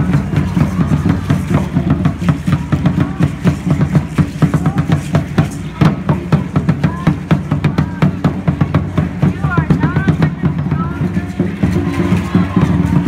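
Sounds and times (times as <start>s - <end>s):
large drum beaten fast: 0.0s - 13.0s.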